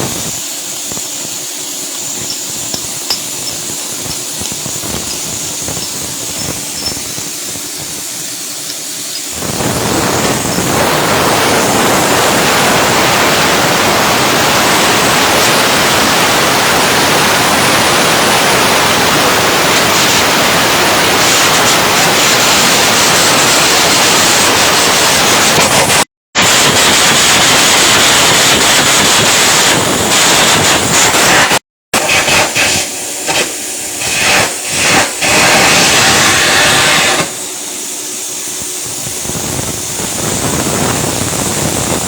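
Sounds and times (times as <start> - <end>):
welding arc crackling and sizzling: 0.0 - 42.0.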